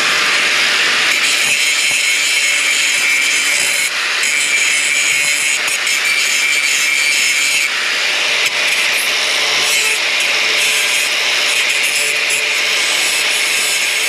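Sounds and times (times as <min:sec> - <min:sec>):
power tool on steel: 0:00.0 - 0:14.0.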